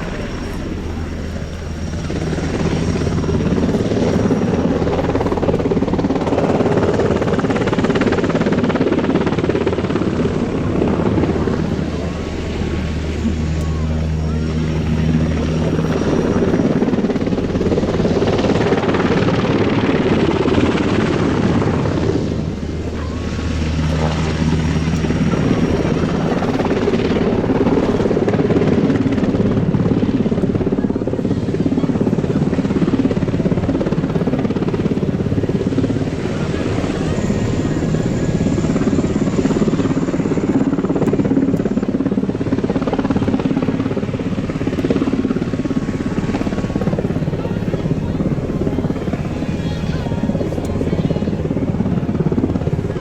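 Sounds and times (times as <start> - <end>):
helicopter rotors and engines: 0.0 - 53.0.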